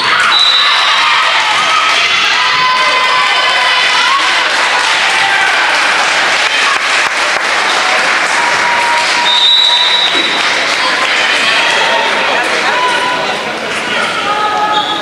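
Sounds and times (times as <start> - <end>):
crowd applauding and cheering: 0.0 - 14.6.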